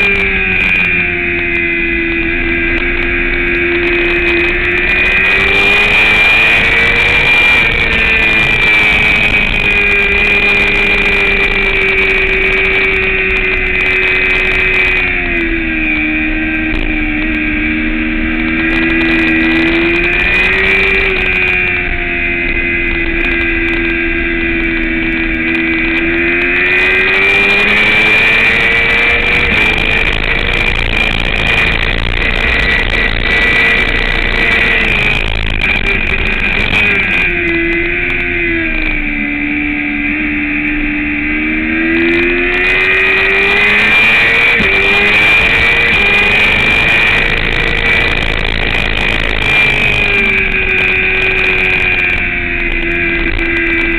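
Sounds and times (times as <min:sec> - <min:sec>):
motorcycle engine revving high: 0:00.0 - 0:53.9.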